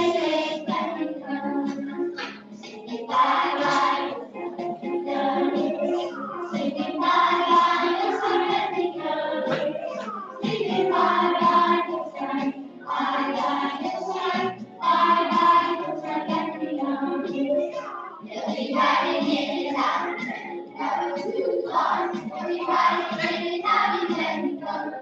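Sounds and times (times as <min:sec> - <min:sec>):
children singing: 0:00.0 - 0:25.0
musical accompaniment: 0:00.0 - 0:25.0.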